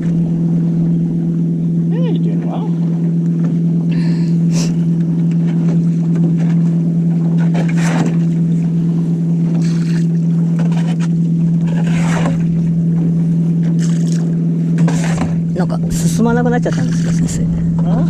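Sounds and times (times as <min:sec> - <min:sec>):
loud low hum: 0:00.0 - 0:18.0.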